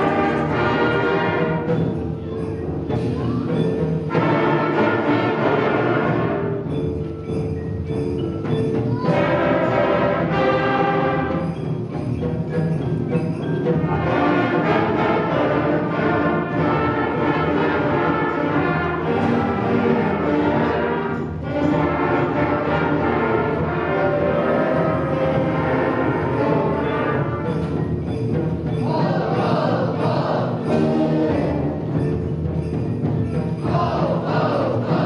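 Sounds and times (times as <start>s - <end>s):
concert band playing: 0.0s - 35.0s.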